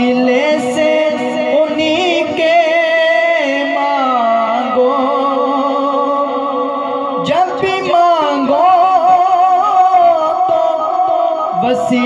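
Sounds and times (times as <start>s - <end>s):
man singing through microphone: 0.0s - 12.0s.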